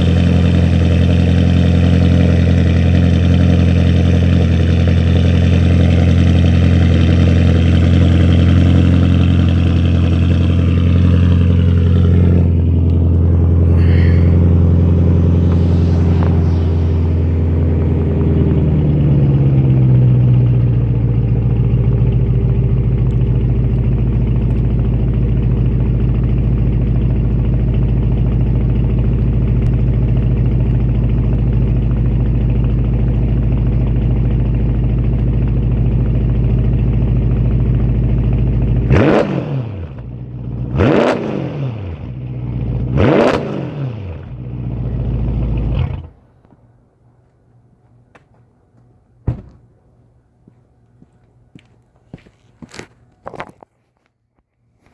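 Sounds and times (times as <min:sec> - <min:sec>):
car engine idling loudly: 0:00.0 - 0:46.2.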